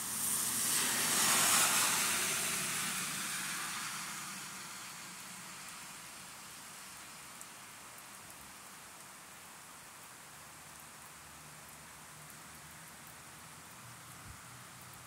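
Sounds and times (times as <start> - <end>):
rain on wet concrete: 0.0 - 15.0
tyres hissing on wet road: 0.0 - 15.0.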